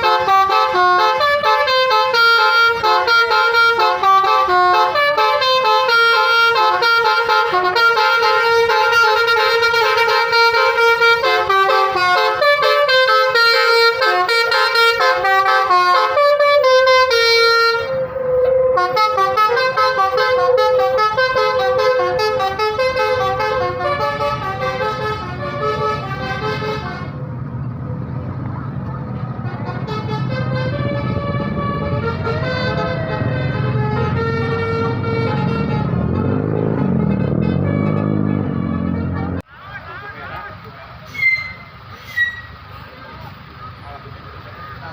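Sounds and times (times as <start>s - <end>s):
musical air horn tune: 0.0s - 27.2s, 29.4s - 39.4s
low engine rumble: 0.0s - 44.9s.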